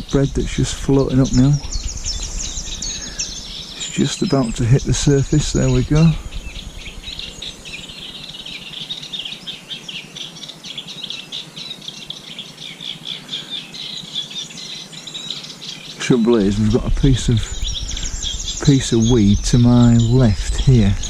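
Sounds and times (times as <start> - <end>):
songbirds singing and chirping: 0.0 - 21.0.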